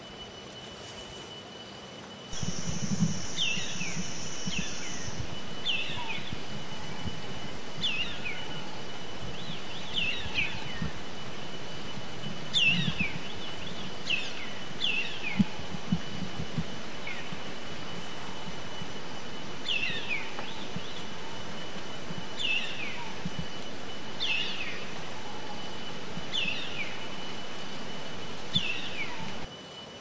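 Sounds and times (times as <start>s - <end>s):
faint steady high tone: 0.0s - 30.0s
steady high buzz: 0.0s - 30.0s
whistled bird calls: 2.3s - 29.5s.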